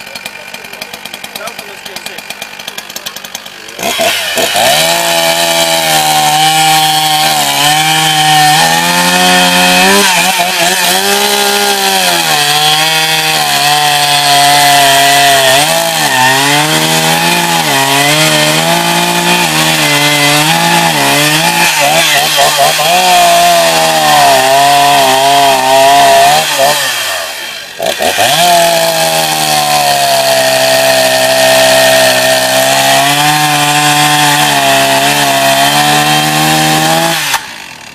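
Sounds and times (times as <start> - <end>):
chainsaw cutting log: 0.0 - 37.9
chainsaw engine revving: 0.0 - 37.9.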